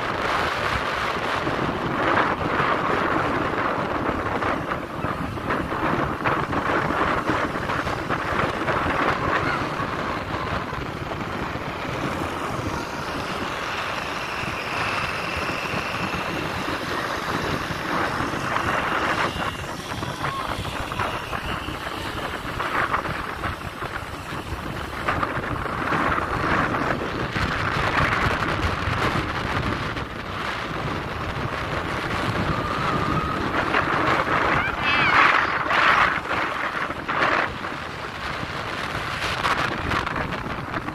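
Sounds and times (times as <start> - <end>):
motorbike engine: 0.0 - 40.9
tyre noise on road: 0.0 - 40.9
wind buffeting microphone: 0.0 - 40.9.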